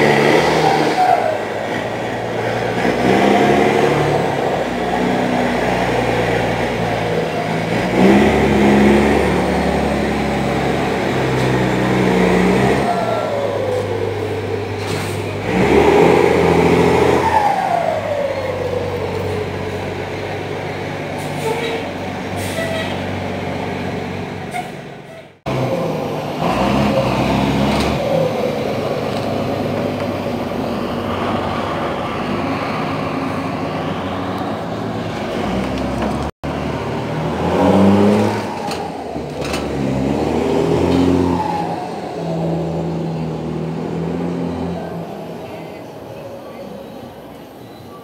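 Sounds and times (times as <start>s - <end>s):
bus diesel engine revving: 0.0s - 47.6s.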